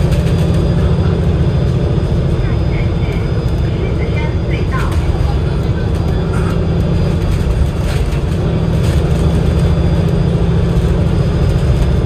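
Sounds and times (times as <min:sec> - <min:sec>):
bus diesel engine drone: 0:00.0 - 0:12.0
road noise: 0:00.0 - 0:12.0.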